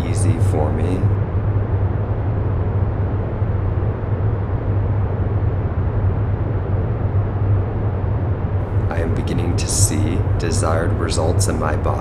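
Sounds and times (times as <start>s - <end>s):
constant low hum: 0.0s - 12.0s
low rumbling background noise: 0.0s - 12.0s.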